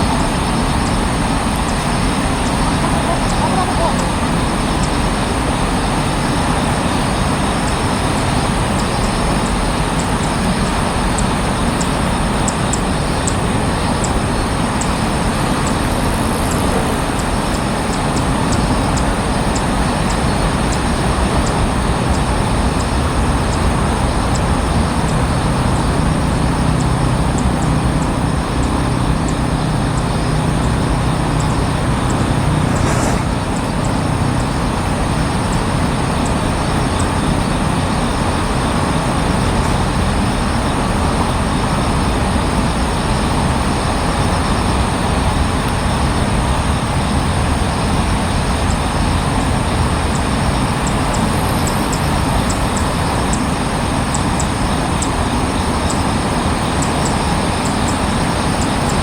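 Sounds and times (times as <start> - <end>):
loud rumbling background noise: 0.0 - 59.0
low hum: 0.0 - 59.0.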